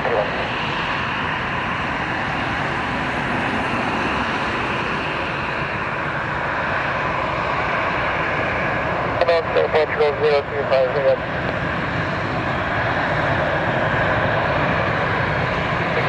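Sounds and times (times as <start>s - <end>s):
jet airliner engine rush: 0.0s - 16.0s.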